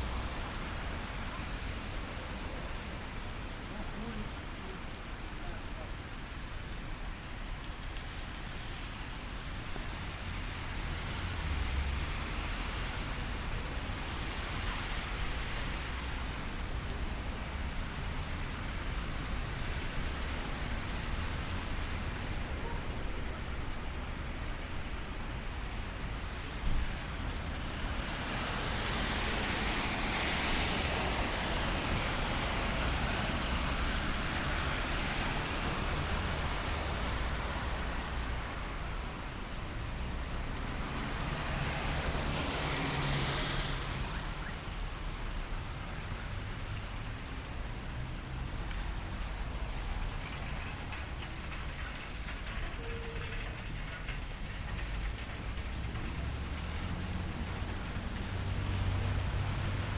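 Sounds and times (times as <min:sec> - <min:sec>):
traffic on wet road: 0:00.0 - 0:59.9.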